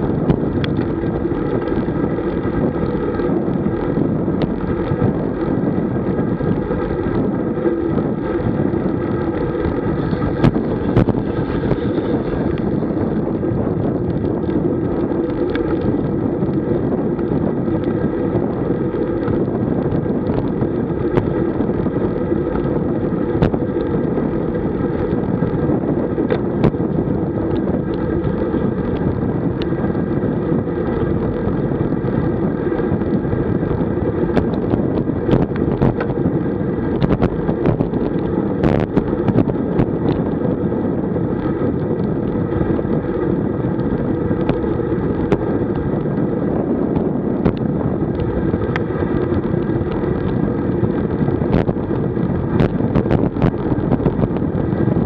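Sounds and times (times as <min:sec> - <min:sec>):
sharp clicks and rattles: 0:00.0 - 0:55.0
wind rush on microphone: 0:00.0 - 0:55.0.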